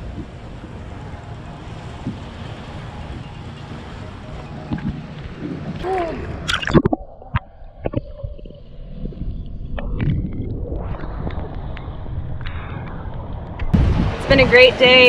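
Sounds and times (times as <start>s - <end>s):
water sloshing and gurgling: 0.0s - 15.0s
water splash: 0.0s - 15.0s
wind on microphone: 0.0s - 15.0s.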